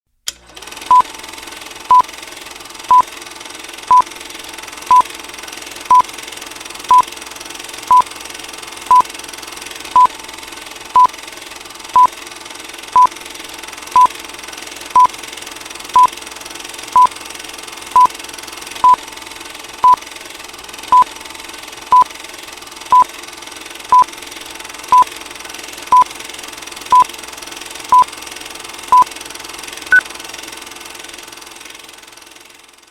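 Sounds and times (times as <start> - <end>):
film projector humming: 0.3 - 32.8.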